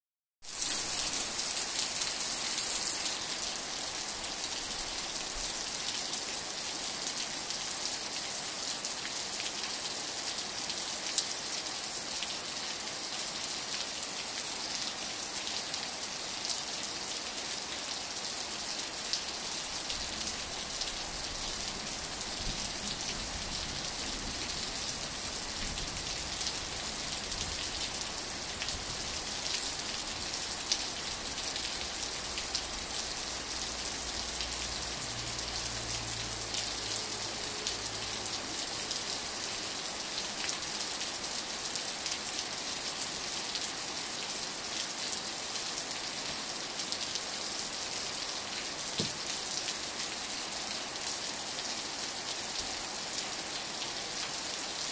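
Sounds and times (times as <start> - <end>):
rain on grass and leaves: 0.4 - 54.9.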